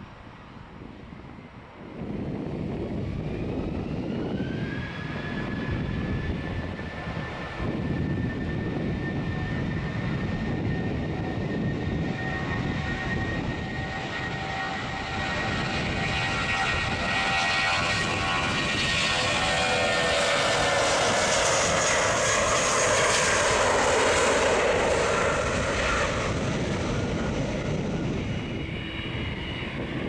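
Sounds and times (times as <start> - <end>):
jet engines taxiing: 0.0 - 30.0.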